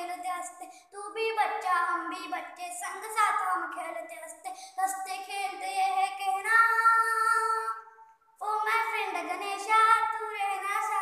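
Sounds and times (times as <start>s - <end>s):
young boy singing: 0.0s - 11.0s.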